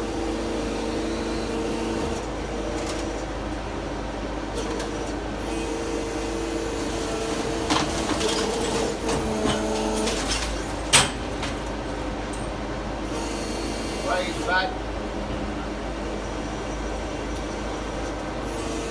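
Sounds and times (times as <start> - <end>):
hydraulic machine hum and whine: 0.0 - 18.9.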